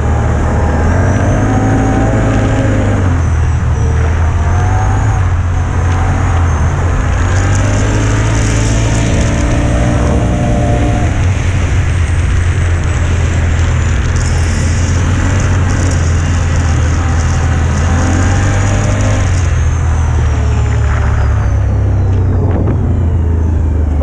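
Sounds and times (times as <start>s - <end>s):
quad bike engine rumbling: 0.0s - 24.0s.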